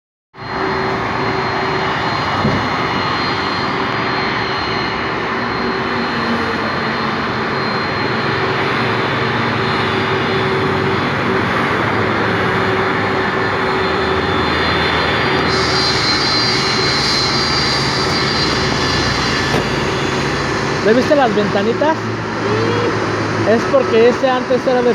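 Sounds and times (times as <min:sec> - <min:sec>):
jet engines running: 0:00.4 - 0:20.9.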